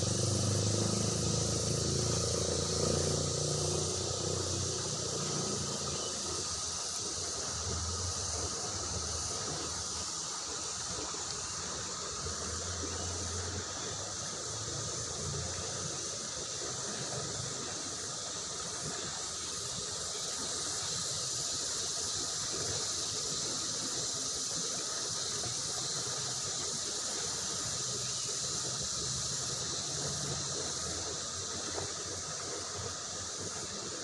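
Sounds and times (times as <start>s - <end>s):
river water rushing over rocks: 0.0s - 34.0s.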